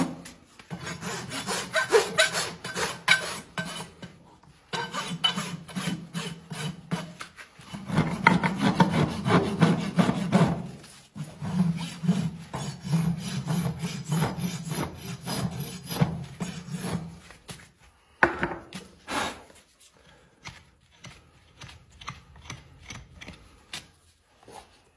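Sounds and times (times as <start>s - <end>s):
rasp filing a hoof: 0.6s - 17.4s, 19.0s - 24.6s.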